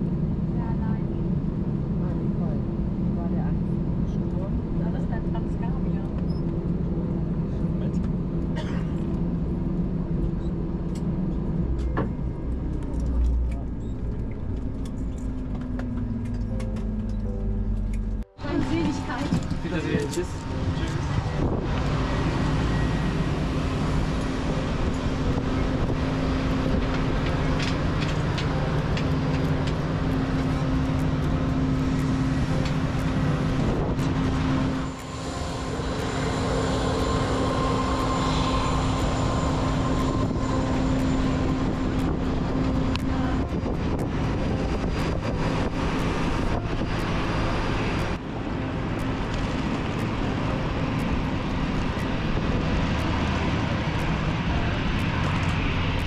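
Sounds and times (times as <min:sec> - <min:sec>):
jet airliners droning: 0:00.0 - 0:56.0.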